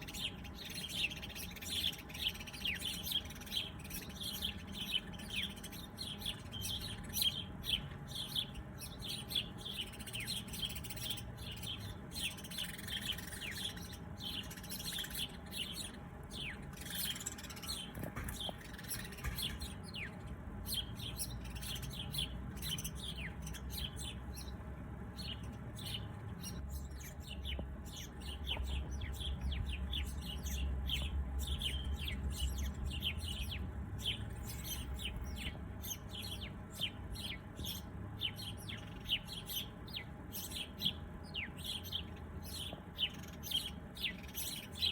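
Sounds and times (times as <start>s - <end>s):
low background rumble: 0.0s - 44.9s
songbirds chirping: 0.0s - 44.9s.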